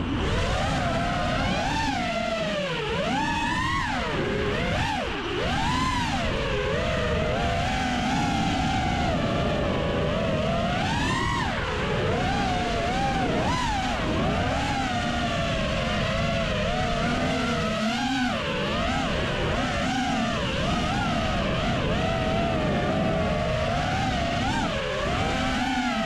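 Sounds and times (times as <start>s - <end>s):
drone propellers whining: 0.0s - 26.0s
wind on microphone: 0.0s - 26.0s.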